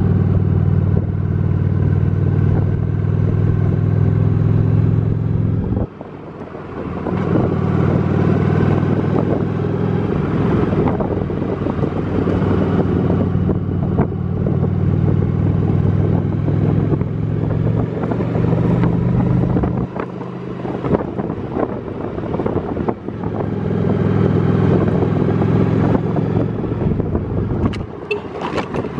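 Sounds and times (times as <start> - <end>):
motorcycle engine running: 0.0 - 28.9
wind noise: 5.5 - 28.9.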